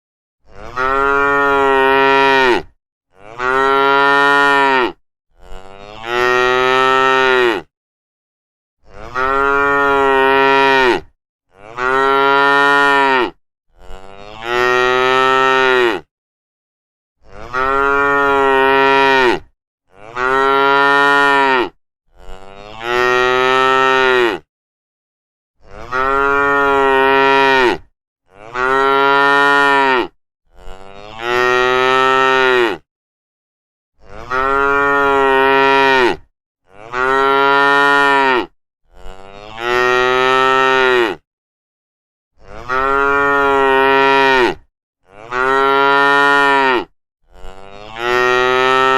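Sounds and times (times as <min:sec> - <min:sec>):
cattle mooing: 0:00.5 - 0:07.7, 0:08.9 - 0:16.1, 0:17.2 - 0:24.4, 0:25.7 - 0:32.8, 0:34.0 - 0:41.2, 0:42.4 - 0:48.9.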